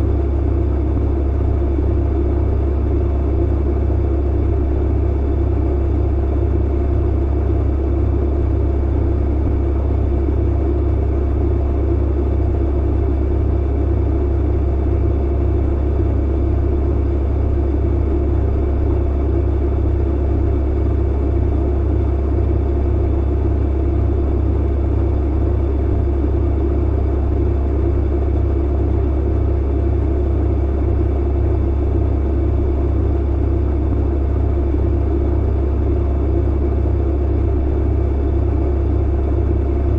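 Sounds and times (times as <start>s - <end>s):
clothes dryer hum and rumble: 0.0s - 39.9s.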